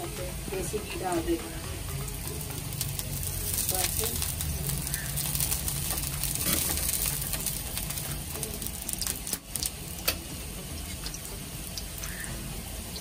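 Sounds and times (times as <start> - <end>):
ghee sizzling on a hot pan: 0.0 - 13.0.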